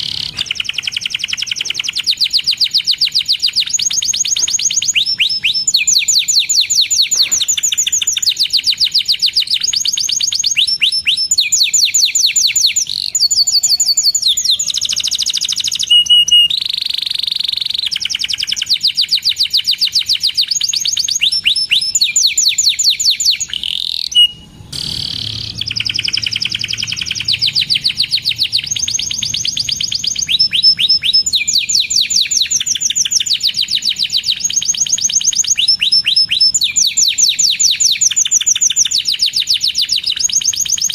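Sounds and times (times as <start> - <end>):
canary trilling: 0.0 - 40.9.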